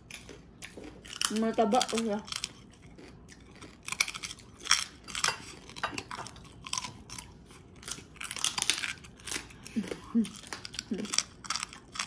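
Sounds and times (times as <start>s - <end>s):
crunching and chewing pork rinds: 0.0s - 12.0s.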